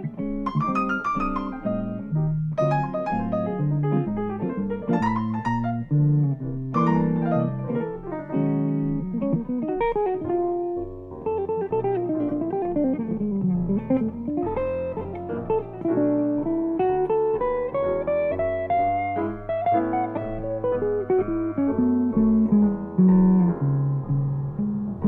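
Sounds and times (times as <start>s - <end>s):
jazz guitar solo: 0.0s - 25.0s.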